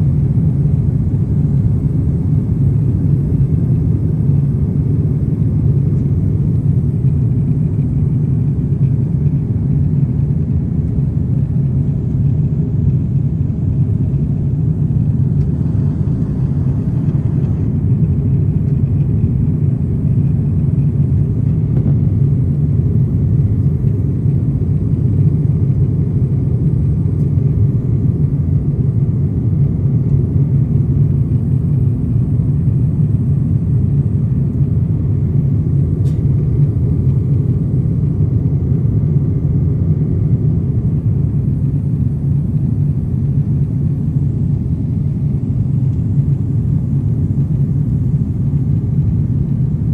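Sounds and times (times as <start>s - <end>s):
jet airliner cabin rumble: 0.0s - 49.9s.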